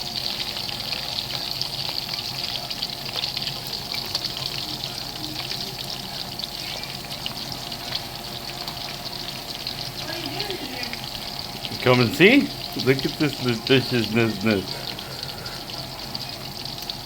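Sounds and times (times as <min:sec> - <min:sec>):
sausage sizzling in hot oil: 0:00.0 - 0:17.0.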